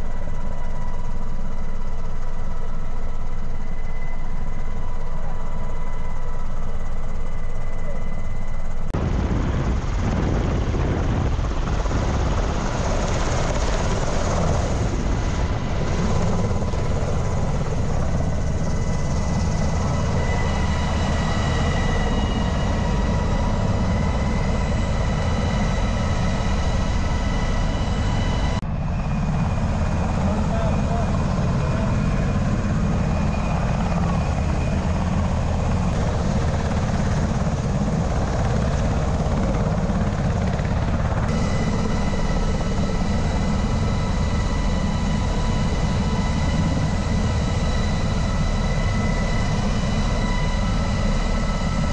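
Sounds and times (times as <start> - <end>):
helicopter turbine and rotor: 0.0 - 51.9.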